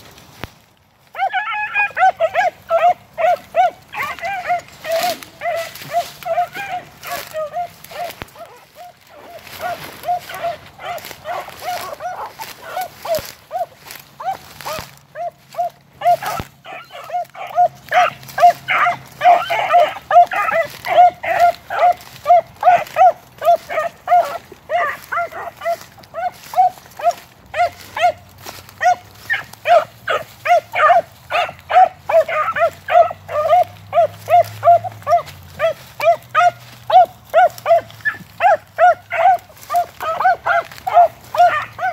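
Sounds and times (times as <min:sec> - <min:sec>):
dogs barking: 0:01.0 - 0:41.9.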